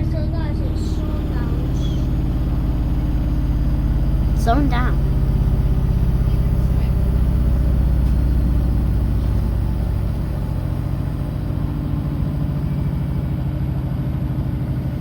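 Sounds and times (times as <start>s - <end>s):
washing machine drum spinning: 0.5s - 13.2s.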